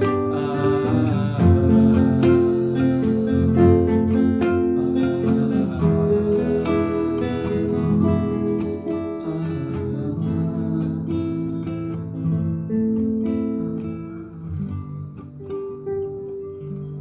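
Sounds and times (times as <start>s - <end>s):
classical guitar strummed chords: 0.0s - 17.0s.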